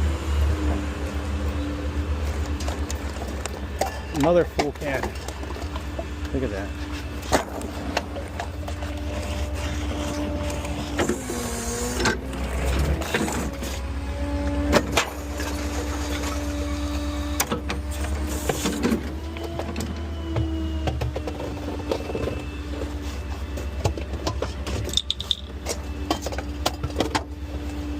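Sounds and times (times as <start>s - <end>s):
garbage truck hydraulics whining: 0.0s - 27.9s.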